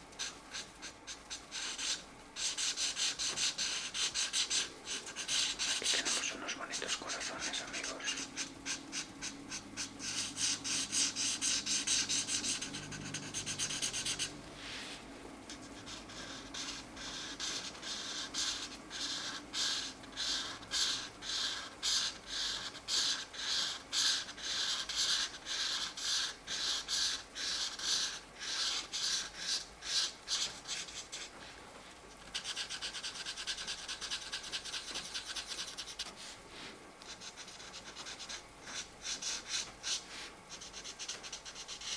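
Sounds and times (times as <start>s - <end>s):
marker scratching on paper: 0.2s - 31.6s, 32.2s - 41.9s.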